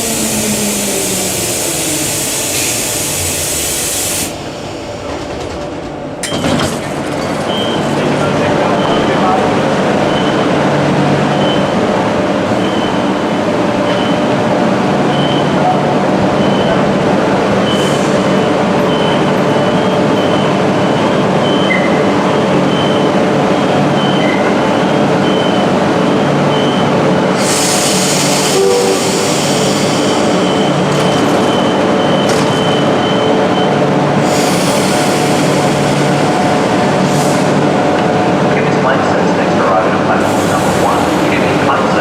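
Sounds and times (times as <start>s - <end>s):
electric train running on track: 0.0s - 10.8s, 18.4s - 42.0s.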